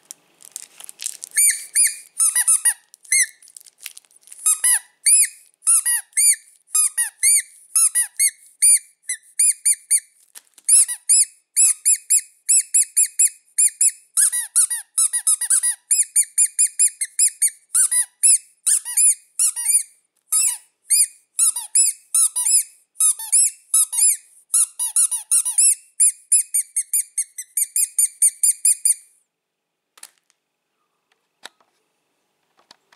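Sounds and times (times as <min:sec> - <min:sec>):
rubber squeaky toys squeaking: 0:00.6 - 0:29.1.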